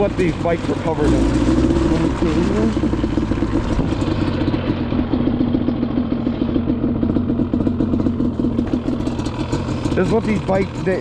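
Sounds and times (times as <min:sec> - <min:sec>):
two-stroke engine running: 0:00.0 - 0:11.0.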